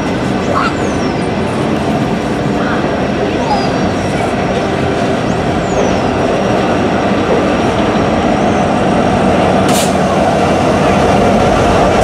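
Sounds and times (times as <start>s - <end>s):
diesel locomotives passing: 0.0s - 12.0s
train wheels rumbling on rail: 0.0s - 12.0s.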